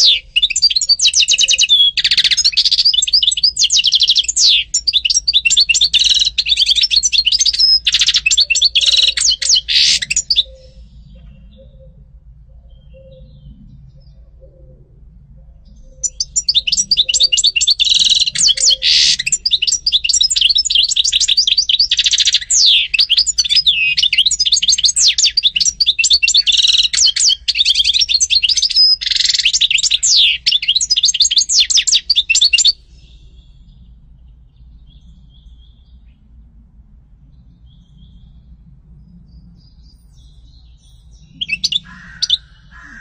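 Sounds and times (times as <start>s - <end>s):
finch twittering song: 0.0s - 14.5s, 15.6s - 36.4s, 37.2s - 43.0s.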